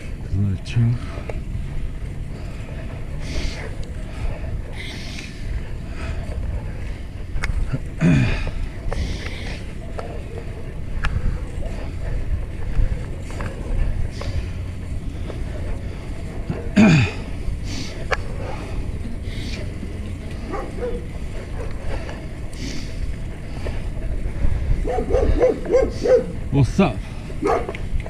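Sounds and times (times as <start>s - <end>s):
bicycle tyres rolling on asphalt: 0.0s - 28.0s
wind buffeting microphone: 0.0s - 28.0s.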